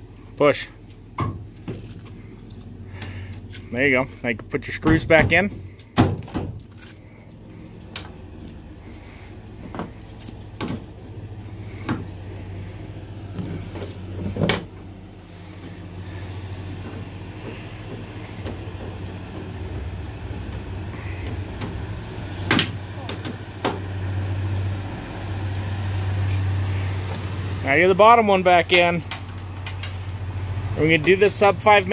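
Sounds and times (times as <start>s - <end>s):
low vehicle hum: 0.0s - 31.9s.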